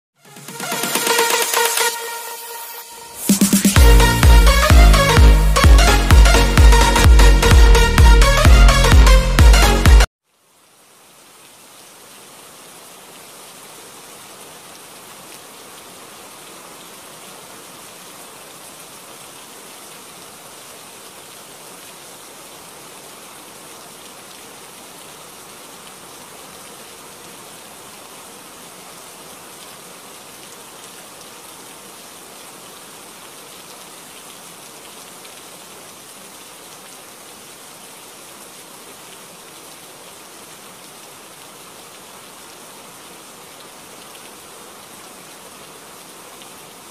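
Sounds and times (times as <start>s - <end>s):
steady rain falling: 0.3s - 46.9s.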